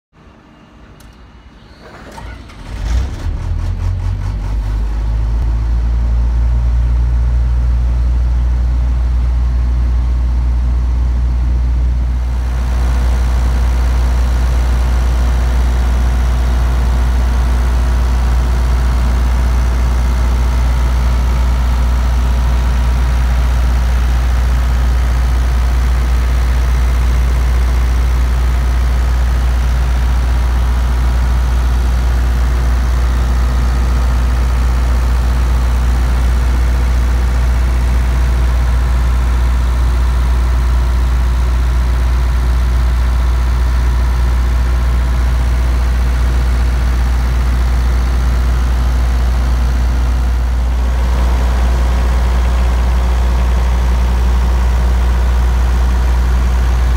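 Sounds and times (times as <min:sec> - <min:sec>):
generator diesel engine running: 0:00.7 - 0:56.9.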